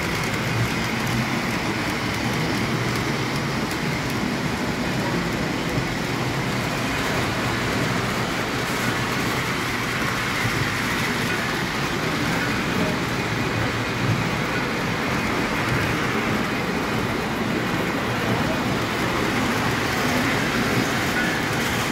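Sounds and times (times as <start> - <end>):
hubbub of busy shop: 0.0 - 21.9
model trains rumbling on track: 0.0 - 21.9.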